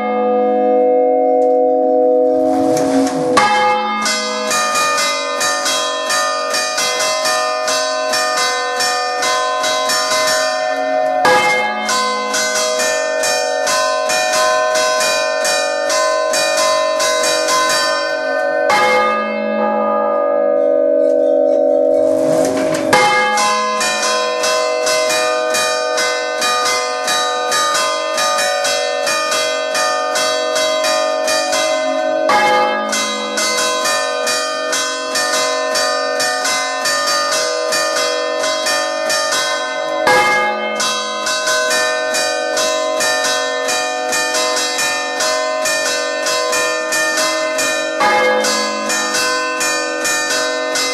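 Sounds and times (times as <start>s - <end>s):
church bells clanging: 0.0s - 50.9s.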